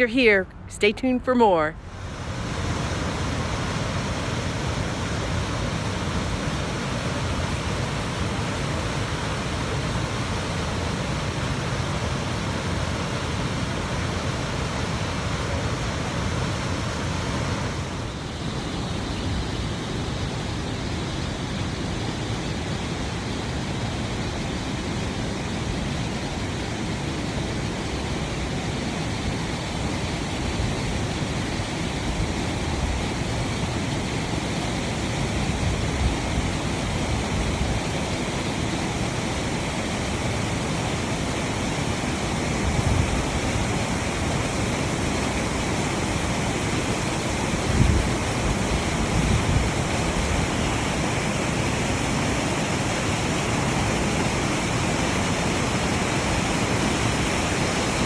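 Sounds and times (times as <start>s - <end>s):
rushing mountain water: 2.0s - 58.0s.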